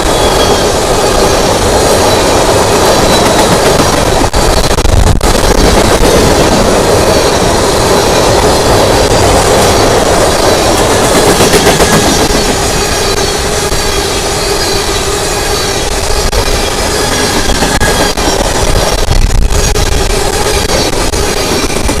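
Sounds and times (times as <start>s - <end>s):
train wheels clattering over rail joints: 0.0s - 22.0s.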